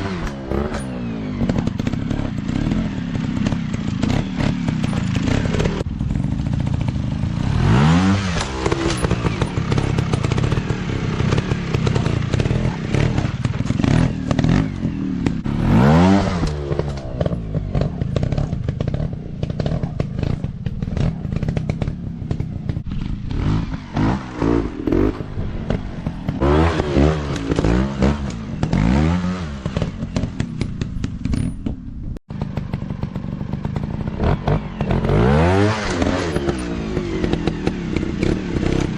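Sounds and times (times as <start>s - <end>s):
dirt bike engines revving: 0.0s - 31.5s, 32.3s - 38.9s.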